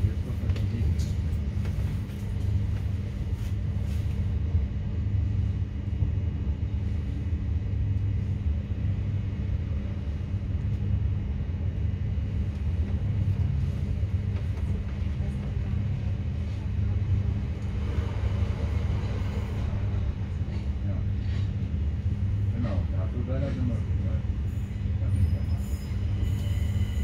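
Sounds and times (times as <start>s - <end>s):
train rumble inside carriage: 0.0s - 27.0s.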